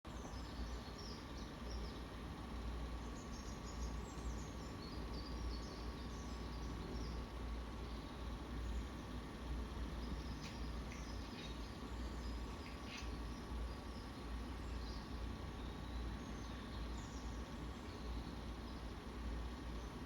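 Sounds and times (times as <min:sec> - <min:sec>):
small songbirds chirping: 0:00.1 - 0:20.0
steady low hum: 0:00.1 - 0:20.0.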